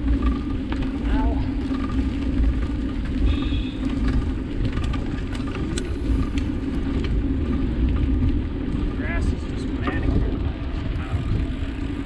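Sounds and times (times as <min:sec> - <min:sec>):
low droning rumble: 0:00.0 - 0:12.0
wind buffeting microphone: 0:00.0 - 0:12.0.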